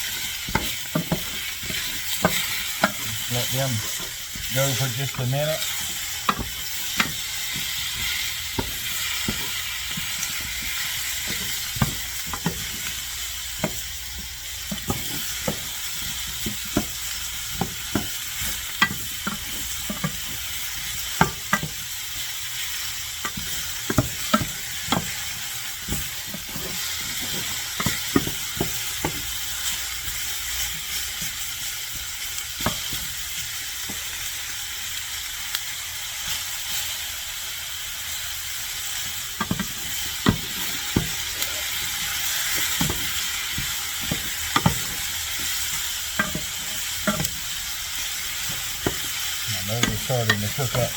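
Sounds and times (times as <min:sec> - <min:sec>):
food sizzling in a pan: 0:00.0 - 0:50.9
utensil stirring against pan: 0:00.0 - 0:50.9.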